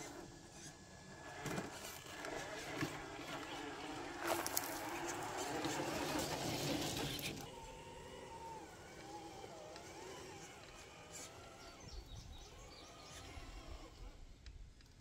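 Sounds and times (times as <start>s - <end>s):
electric motor whine: 0.0s - 14.6s.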